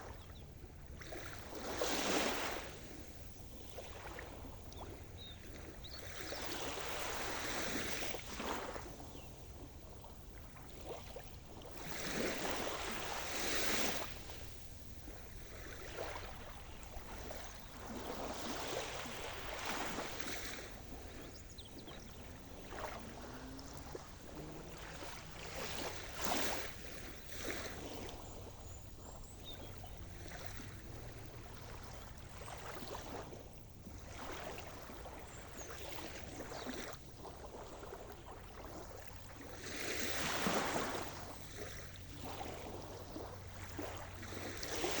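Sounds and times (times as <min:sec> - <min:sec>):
steady water noise: 0:00.0 - 0:45.0
waves breaking on shore: 0:00.0 - 0:45.0.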